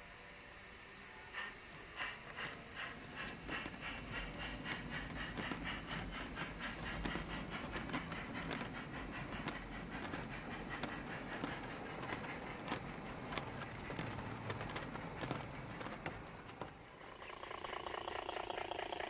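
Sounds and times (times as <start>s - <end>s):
wheels rumbling on track: 1.1s - 19.0s
model locomotive ticking beat: 1.2s - 19.0s.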